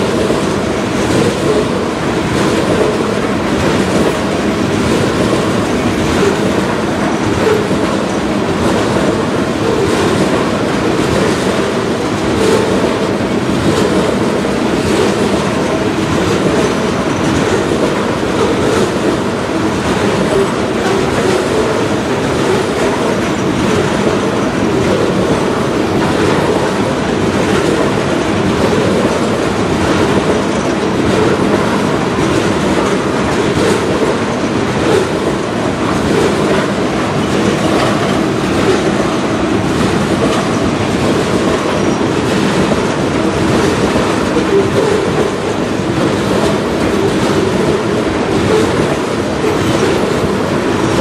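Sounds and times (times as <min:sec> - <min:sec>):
tank cars rumbling on rails: 0:00.0 - 0:51.0
wheels clicking over rail joints: 0:00.0 - 0:51.0.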